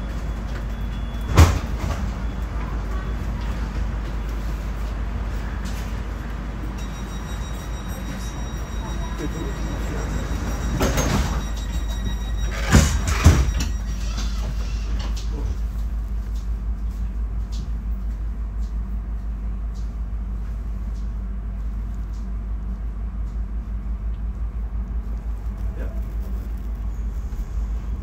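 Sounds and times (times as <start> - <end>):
electric train hum: 0.0 - 28.0.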